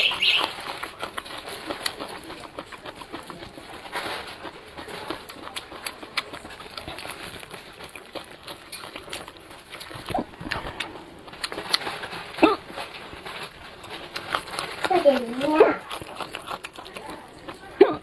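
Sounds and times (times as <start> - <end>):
mouth chewing with wet clicks: 0.0 - 18.0.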